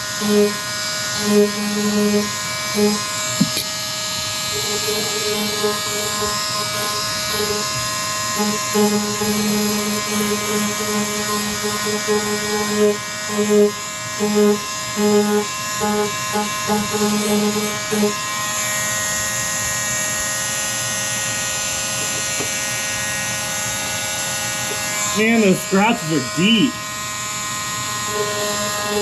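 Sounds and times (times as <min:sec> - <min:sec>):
power sander buzzing: 0:00.0 - 0:29.0.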